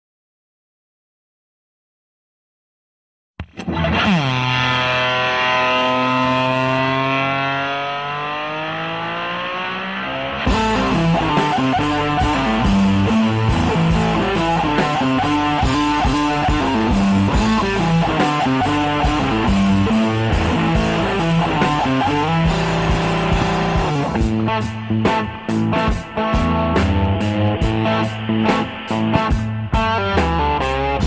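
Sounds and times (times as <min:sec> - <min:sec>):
rock drums and bass: 0:03.4 - 0:07.5, 0:10.0 - 0:31.0
electric guitar chord ringing: 0:03.4 - 0:08.0, 0:10.0 - 0:31.0.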